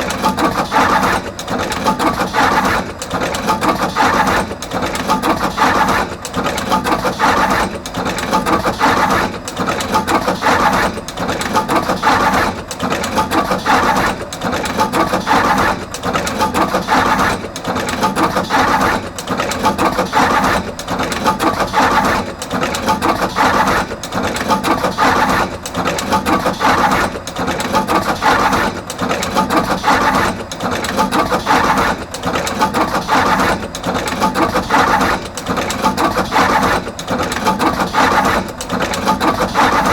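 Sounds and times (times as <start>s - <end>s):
wire processing machine clatter: 0.0s - 39.9s.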